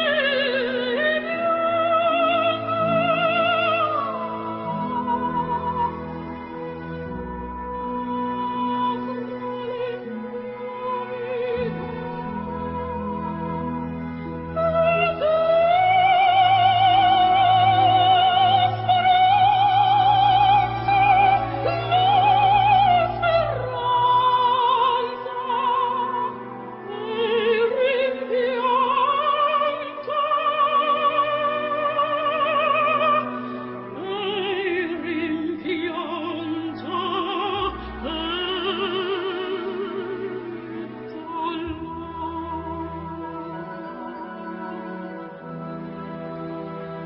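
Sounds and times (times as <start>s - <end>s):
classical accompaniment: 0.0s - 47.0s
operatic singing: 0.0s - 47.0s.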